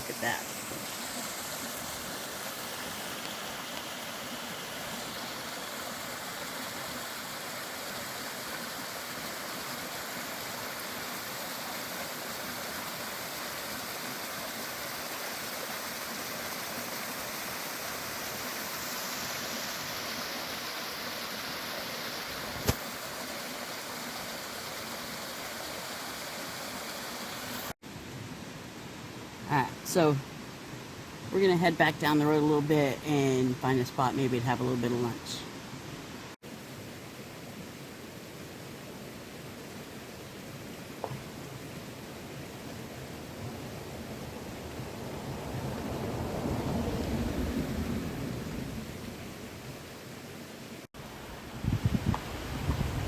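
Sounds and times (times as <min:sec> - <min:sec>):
waterfall and creek rushing: 0:00.0 - 0:53.0.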